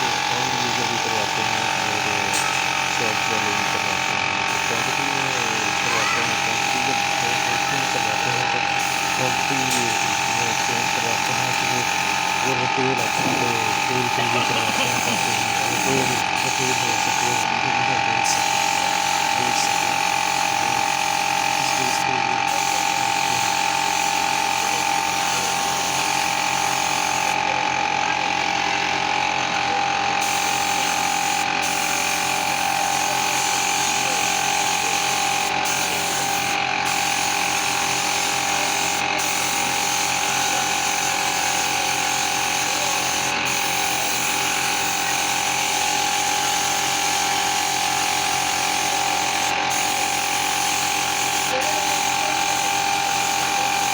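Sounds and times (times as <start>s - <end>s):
small motor tool humming: 0.0s - 53.9s.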